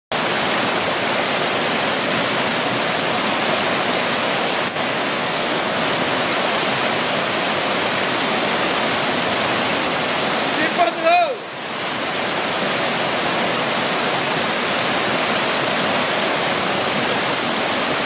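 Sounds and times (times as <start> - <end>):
brook rapids roaring: 0.1 - 18.0.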